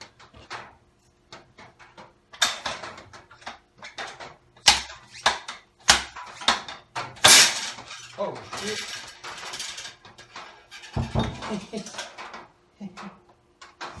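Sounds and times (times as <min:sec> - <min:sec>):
hand tools clicking and clanking: 0:00.0 - 0:14.0.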